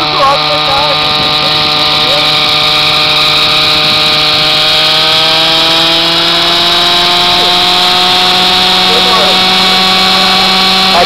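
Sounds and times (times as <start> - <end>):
model helicopter engine whining: 0.0 - 11.0.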